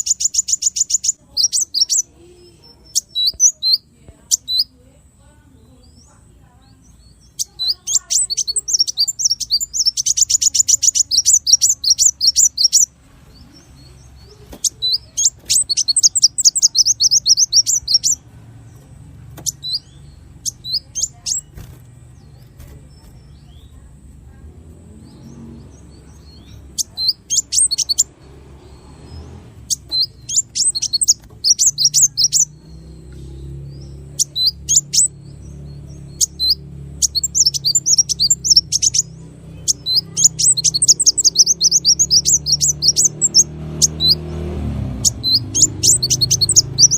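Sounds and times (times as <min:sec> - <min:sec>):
songbird singing rapid high notes: 0:00.0 - 0:46.9.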